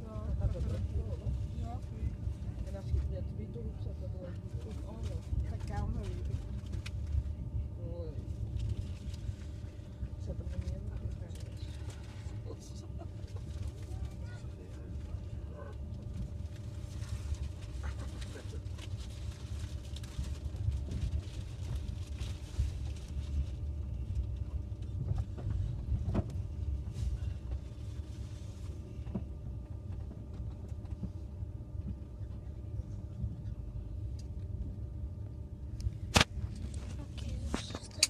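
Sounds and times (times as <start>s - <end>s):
faint constant hum: 0.0s - 38.0s
train rumble inside carriage: 0.0s - 38.0s.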